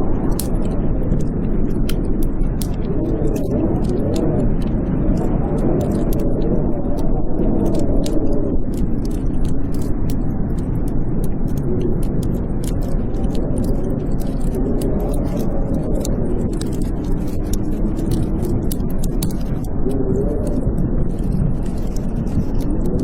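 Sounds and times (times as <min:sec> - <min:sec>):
wind howling: 0:00.0 - 0:23.0
wood fire crackling and popping: 0:00.0 - 0:23.0.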